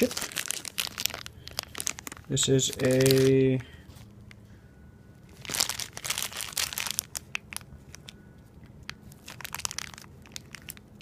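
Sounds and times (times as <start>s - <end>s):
plastic bags crinkling: 0.0s - 4.1s, 5.3s - 8.2s, 8.8s - 11.0s.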